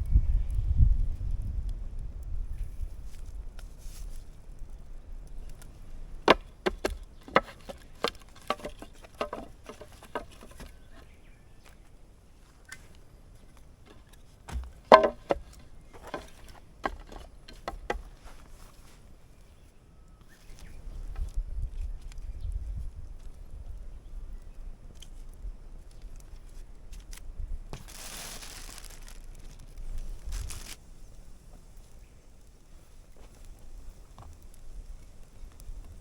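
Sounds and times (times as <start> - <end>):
dry firewood cracking and snapping: 1.5 - 18.8, 20.2 - 36.0.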